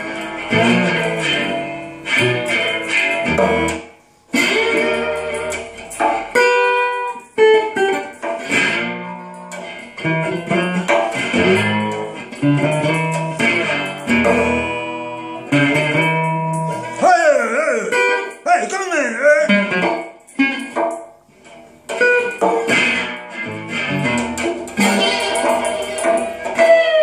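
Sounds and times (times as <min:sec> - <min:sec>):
amplified resonator guitar blues: 0:00.0 - 0:27.0.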